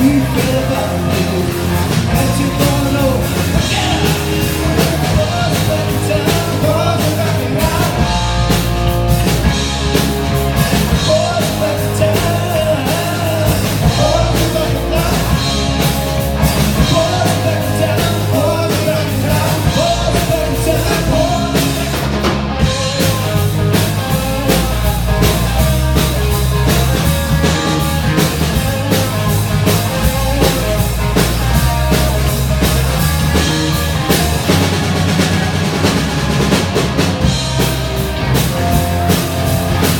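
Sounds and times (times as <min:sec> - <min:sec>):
rock song with vocals: 0:00.0 - 0:39.9.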